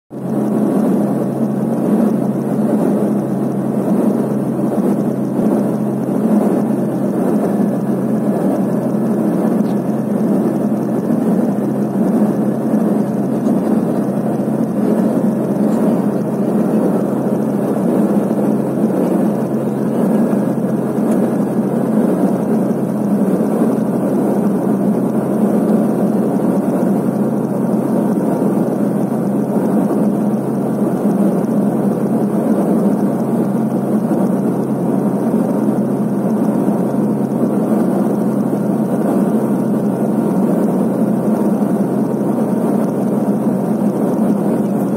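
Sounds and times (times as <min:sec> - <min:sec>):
aircraft cabin engine drone: 0:00.1 - 0:44.9.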